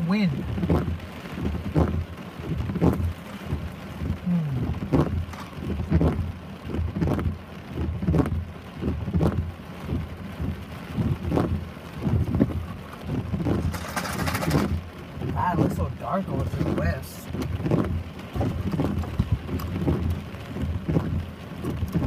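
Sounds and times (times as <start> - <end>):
low thumps: 0.0 - 16.0, 16.6 - 22.0
heavy rain: 0.0 - 22.0.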